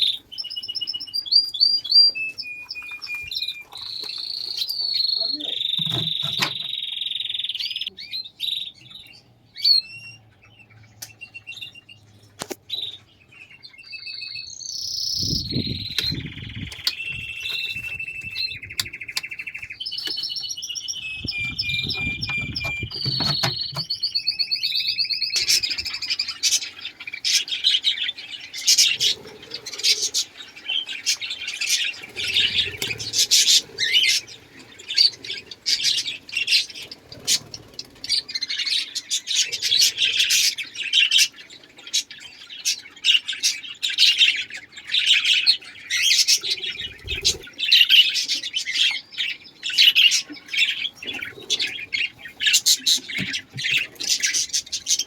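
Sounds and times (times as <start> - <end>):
birds chirping and chattering: 0.0 - 55.0
birds trilling: 0.0 - 55.0.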